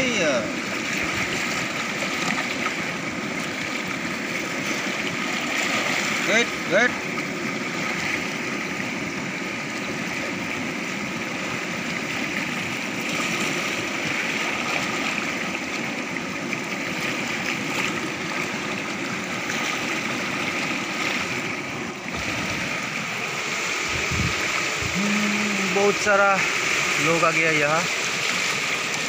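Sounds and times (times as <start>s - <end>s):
water rushing past rocks: 0.0s - 29.0s.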